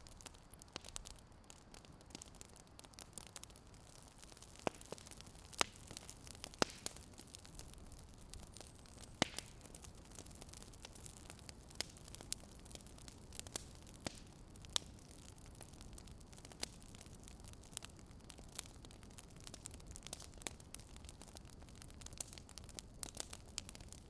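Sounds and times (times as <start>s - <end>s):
fire crackling and popping: 0.0s - 24.0s
steady fire hiss: 0.0s - 24.0s.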